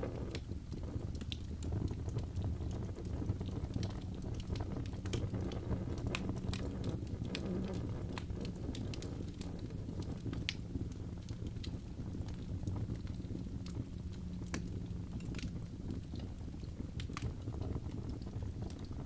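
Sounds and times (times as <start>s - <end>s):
fire flames rumbling: 0.0s - 19.0s
wood crackling and popping: 0.0s - 19.0s.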